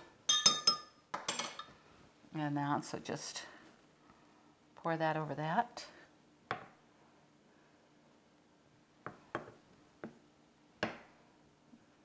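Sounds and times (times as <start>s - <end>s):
faint steady background: 0.0s - 12.0s.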